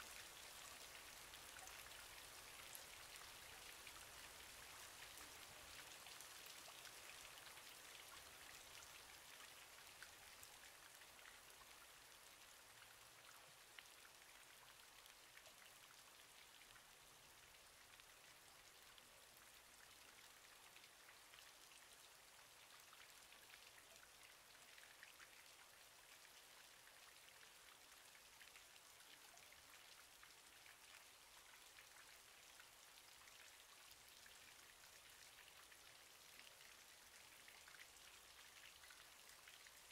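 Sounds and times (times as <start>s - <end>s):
light rain patter: 0.0s - 39.9s.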